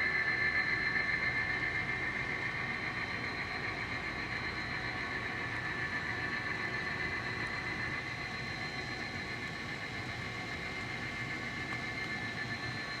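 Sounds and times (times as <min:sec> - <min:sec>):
model train hum and rumble: 0:00.0 - 0:13.0.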